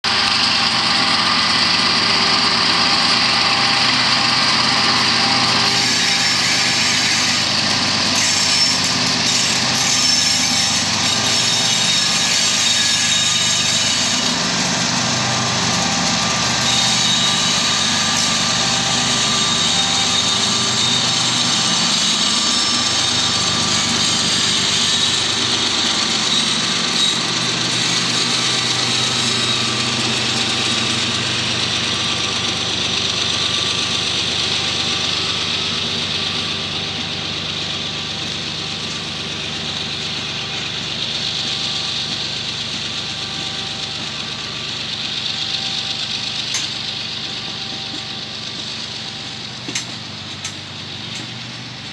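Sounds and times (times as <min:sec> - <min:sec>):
diesel locomotive engines running: 0:00.0 - 0:51.9
train cars rolling on rails: 0:00.0 - 0:51.9.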